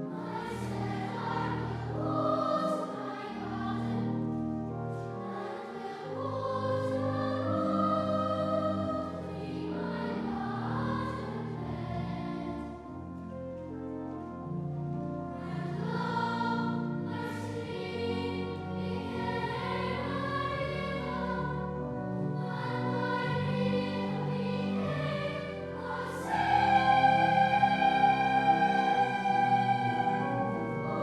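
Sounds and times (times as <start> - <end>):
choir singing slowly: 0.0 - 31.0.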